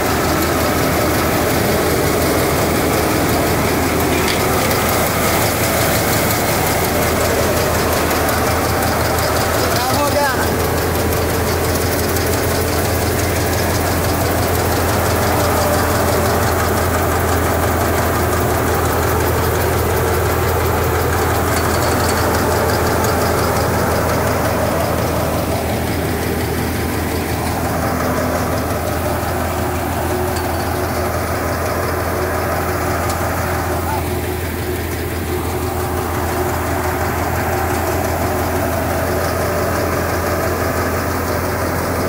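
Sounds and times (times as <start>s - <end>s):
mechanical clatter: 0.0s - 42.0s
thresher engine droning: 0.0s - 42.0s.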